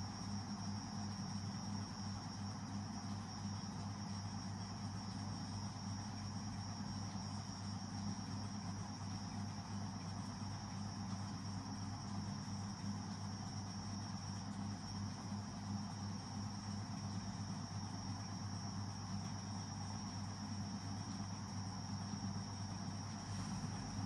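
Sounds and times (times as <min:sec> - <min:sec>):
background hum: 0:00.0 - 0:24.0.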